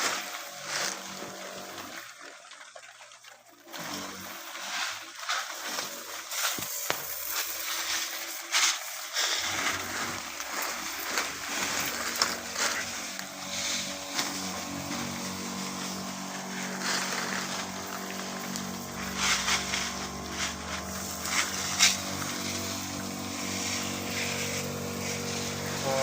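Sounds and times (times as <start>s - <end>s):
crop sprayer engine running: 0.0s - 2.1s, 3.7s - 26.0s.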